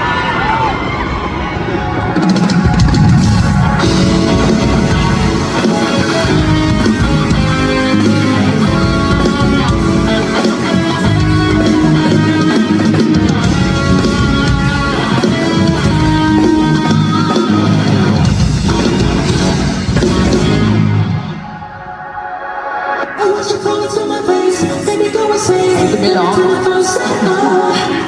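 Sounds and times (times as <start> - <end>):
rock music with electric guitar: 2.0 - 28.0.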